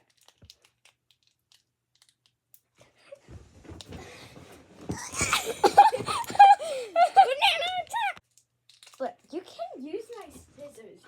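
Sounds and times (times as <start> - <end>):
rustling and handling noise: 0.1 - 11.0.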